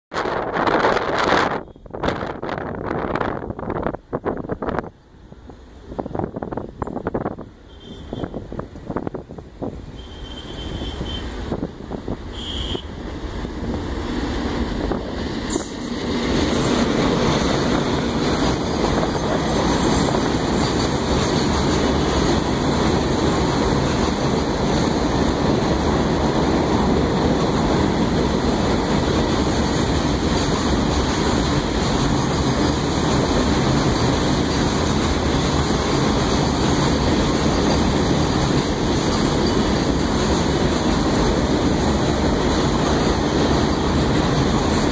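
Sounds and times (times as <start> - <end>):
wagons rumbling on rails: 0.1 - 44.9
electric locomotive passing: 0.2 - 44.9.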